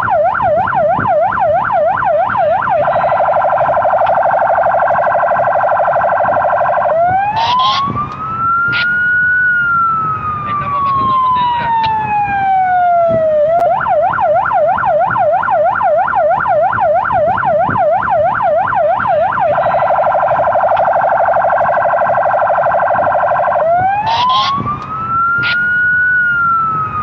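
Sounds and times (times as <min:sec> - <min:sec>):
police car siren: 0:00.0 - 0:27.0.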